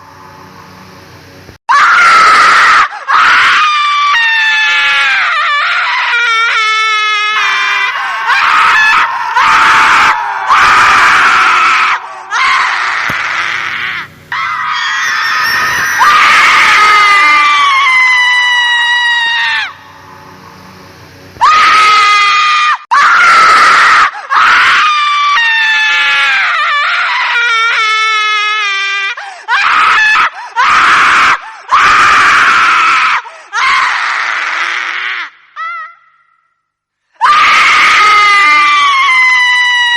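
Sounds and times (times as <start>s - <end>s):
woman's shrill ghostly screaming: 1.7s - 20.2s, 21.4s - 36.6s, 37.2s - 39.9s.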